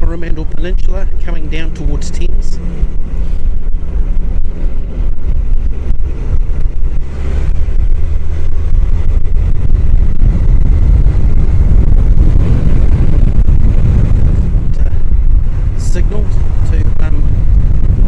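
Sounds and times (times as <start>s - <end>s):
motorcycle engine running: 0.0s - 18.0s
wind noise on helmet microphone: 0.0s - 18.0s.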